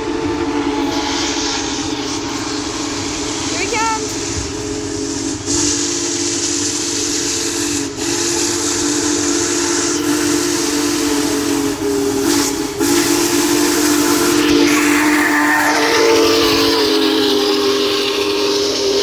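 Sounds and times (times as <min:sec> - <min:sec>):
steady steam hiss: 0:00.0 - 0:19.0
steam locomotive chime whistle: 0:00.0 - 0:19.0.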